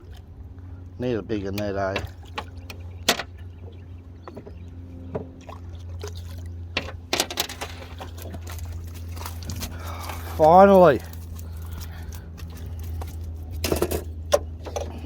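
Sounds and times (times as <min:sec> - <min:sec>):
steady low hum: 0:00.0 - 0:15.0
water splashing and trickling: 0:01.6 - 0:03.8, 0:04.7 - 0:15.0.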